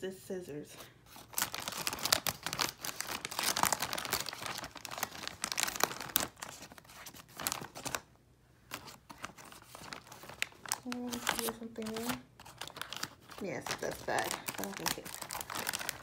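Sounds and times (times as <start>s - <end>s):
plastic bag crinkling: 1.1s - 8.1s, 8.7s - 16.0s.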